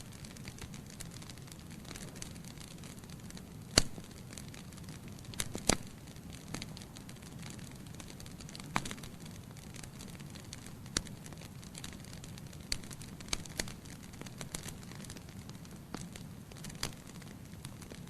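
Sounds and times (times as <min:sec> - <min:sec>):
fireplace flames rushing: 0:00.0 - 0:18.0
logs crackling and popping: 0:00.0 - 0:18.0.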